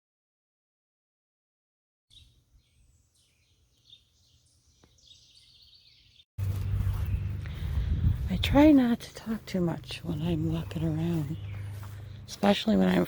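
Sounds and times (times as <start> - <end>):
outdoor background noise: 2.1 - 13.0
songbirds chirping: 2.1 - 13.0.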